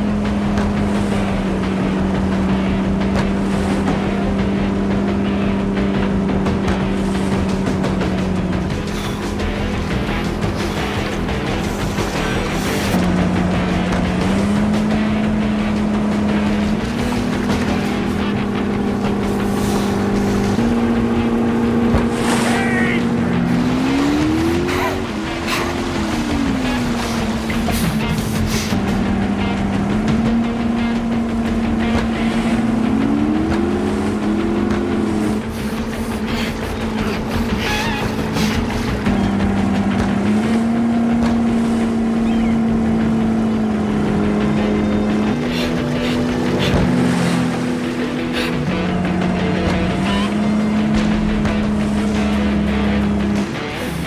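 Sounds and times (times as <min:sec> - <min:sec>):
motorboat engine running: 0:00.0 - 0:54.0
rushing water: 0:00.0 - 0:54.0.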